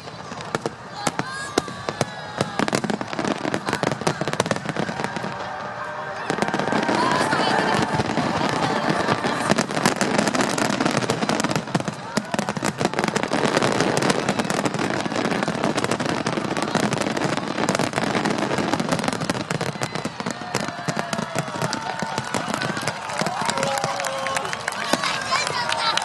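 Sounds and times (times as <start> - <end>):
crowd voices: 0.0 - 26.0
fireworks crackling: 0.0 - 26.0.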